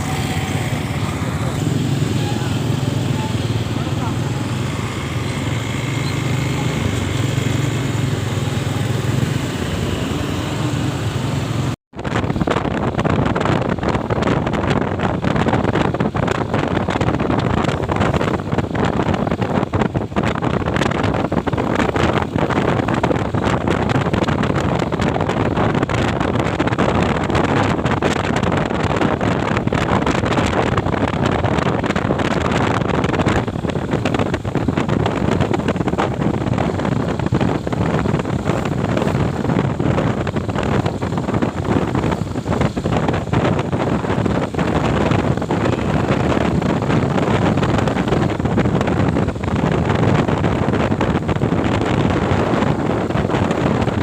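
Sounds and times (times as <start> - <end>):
motorcycle engine hum: 0.0 - 54.0
wind buffeting microphone: 0.0 - 54.0.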